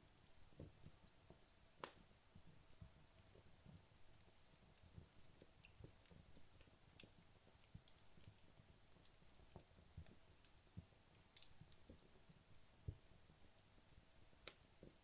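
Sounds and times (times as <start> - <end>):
wood logs crackling in fireplace: 0.0 - 15.0.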